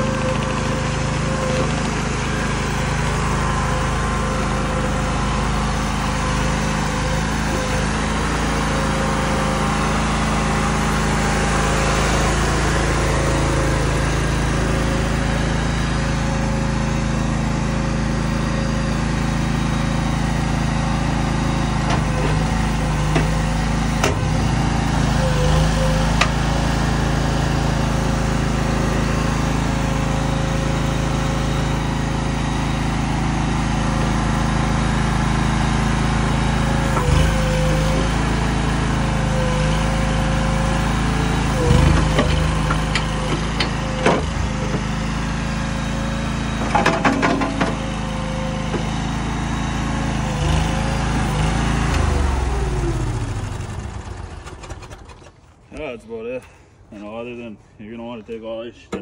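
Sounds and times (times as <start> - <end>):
small engine running steadily: 0.0 - 57.8.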